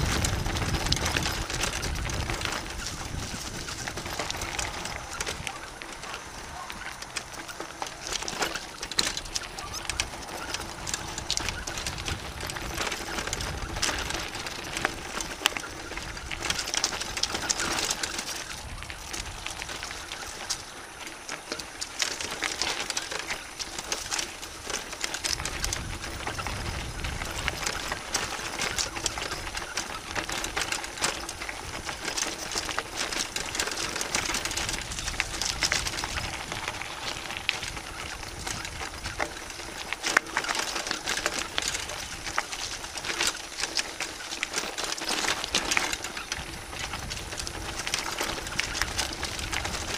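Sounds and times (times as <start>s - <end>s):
bike tyres crunching over gravel: 0.0s - 49.9s
wind rumbling on microphone: 0.0s - 49.9s.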